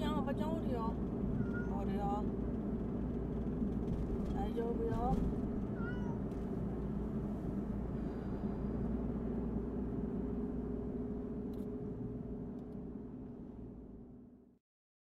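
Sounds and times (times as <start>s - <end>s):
car engine hum inside cabin: 0.0s - 14.6s.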